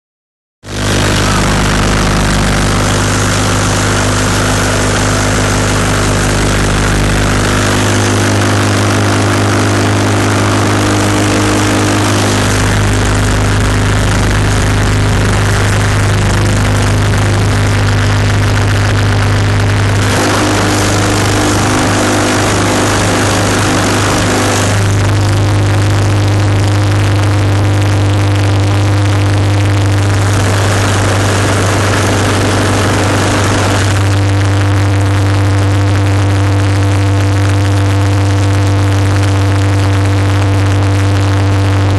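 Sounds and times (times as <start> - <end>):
machinery droning: 0.7 - 41.9.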